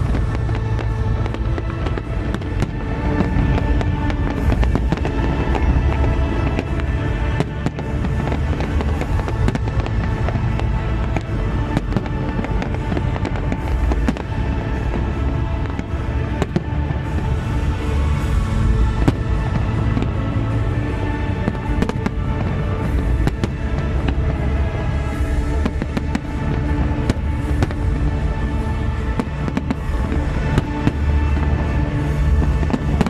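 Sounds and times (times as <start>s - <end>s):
fireworks cracking and booming: 0.0s - 33.0s
loud show music: 0.0s - 33.0s
low rumble: 0.0s - 33.0s.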